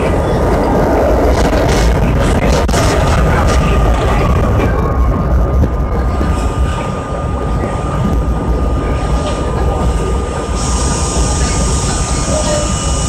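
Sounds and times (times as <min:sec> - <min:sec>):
subway car wheels rumbling: 0:00.0 - 0:13.0.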